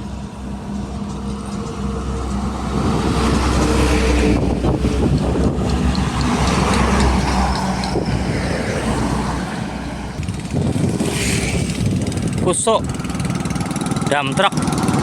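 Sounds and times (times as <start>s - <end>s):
diesel trucks passing: 0.0s - 15.0s.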